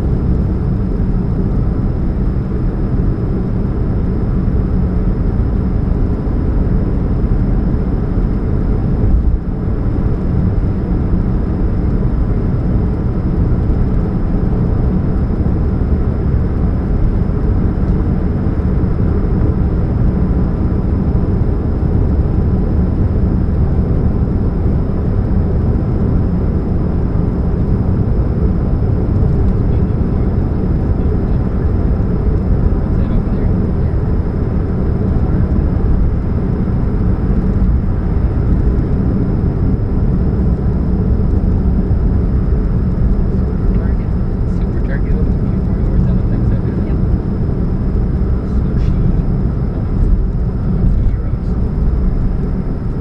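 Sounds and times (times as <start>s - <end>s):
car low hum and rumble: 0.0s - 53.0s.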